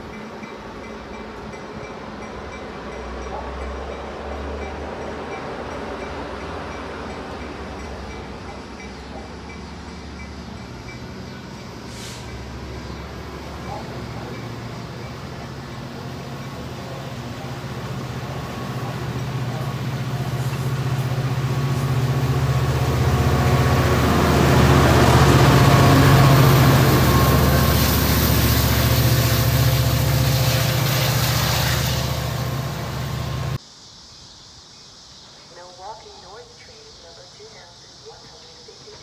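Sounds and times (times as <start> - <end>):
diesel locomotive drone: 0.0 - 33.6
train wheel and rail noise: 0.0 - 33.9, 35.1 - 39.0.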